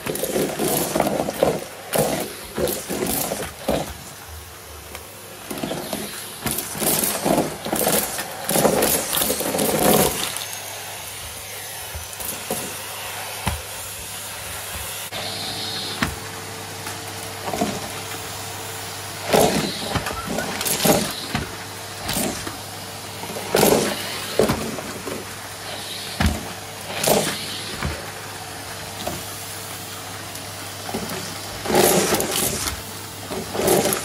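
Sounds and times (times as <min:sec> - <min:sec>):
vacuum cleaner humming: 0:00.0 - 0:34.0.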